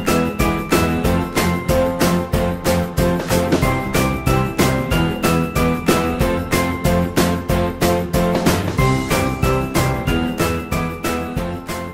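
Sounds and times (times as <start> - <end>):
background music with steady beat: 0.0 - 11.9.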